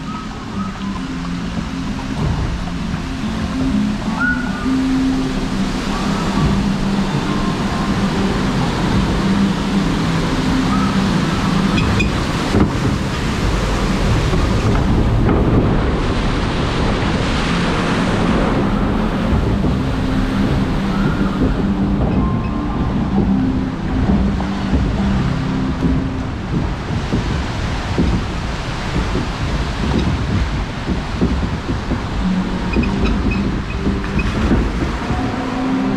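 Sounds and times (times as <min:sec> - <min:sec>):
held low tones: 0:00.0 - 0:35.9
rushing water and rumble: 0:00.0 - 0:35.9
wind buffeting microphone: 0:00.0 - 0:35.9.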